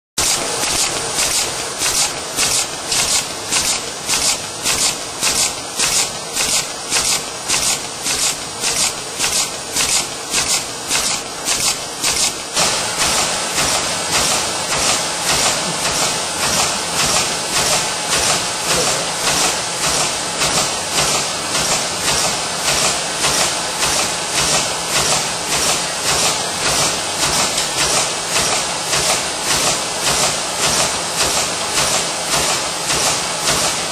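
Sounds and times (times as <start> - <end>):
machine rhythmic hiss and clatter: 0.2 - 33.9.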